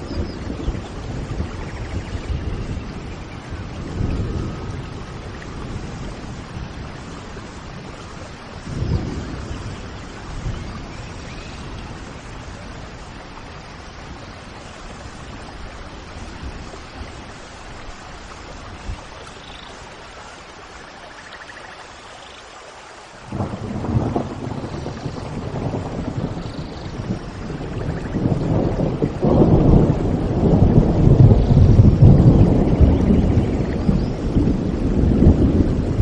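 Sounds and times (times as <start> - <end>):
distant thunder rumbles: 0.0 - 20.2, 23.2 - 36.0
steady rain: 0.0 - 36.0.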